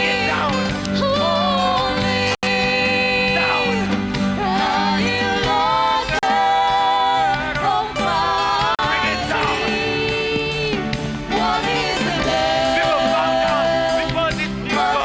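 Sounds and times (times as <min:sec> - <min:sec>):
person singing: 0:00.0 - 0:15.0
sustained instrumental chords: 0:00.0 - 0:15.0.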